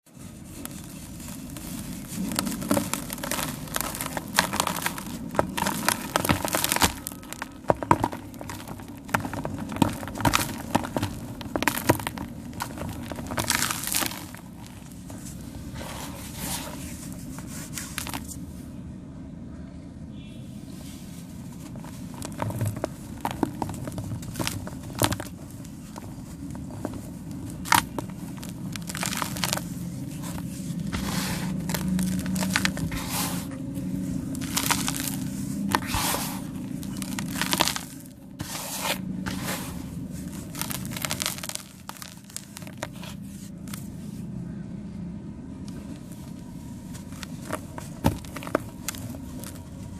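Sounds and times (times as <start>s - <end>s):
sand cement crunching: 0.0s - 18.5s, 20.8s - 44.4s, 45.6s - 49.9s.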